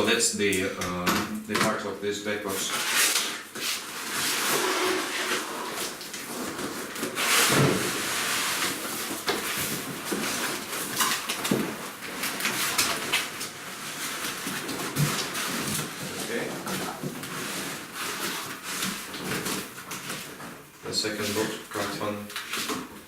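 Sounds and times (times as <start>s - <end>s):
cardboard scraping and rustling: 2.4s - 23.0s.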